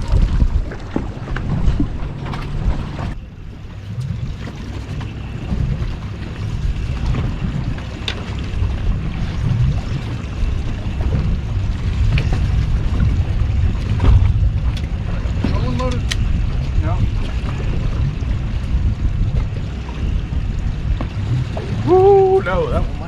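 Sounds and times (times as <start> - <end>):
water lapping at hull: 0.0 - 23.0
wind rumbling on microphone: 0.0 - 23.0.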